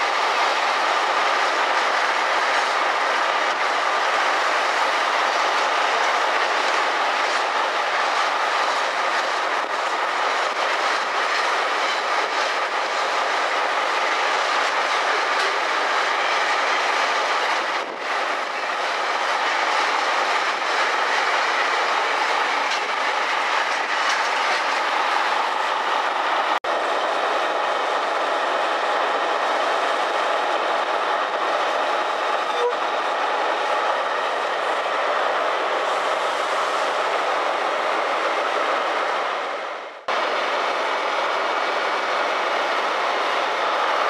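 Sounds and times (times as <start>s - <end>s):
train wheels clattering on rails: 0.0s - 44.0s.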